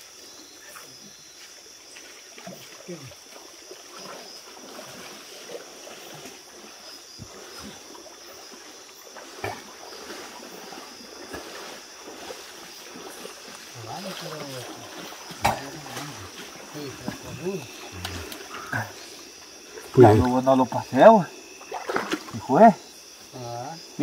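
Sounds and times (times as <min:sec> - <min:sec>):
river water sloshing and trickling: 0:00.0 - 0:24.0
small knocks and splashes: 0:01.4 - 0:20.5, 0:21.5 - 0:22.6.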